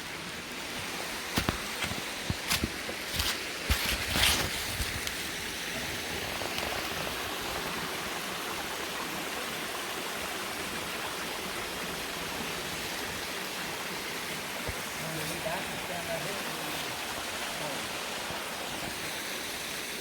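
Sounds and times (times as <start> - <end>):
waterfall and stream rushing: 0.0 - 20.0.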